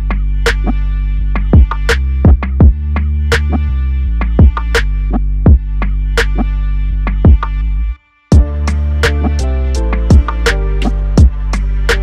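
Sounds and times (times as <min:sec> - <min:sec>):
music with heavy kick drum: 0:00.0 - 0:07.6, 0:08.3 - 0:12.0.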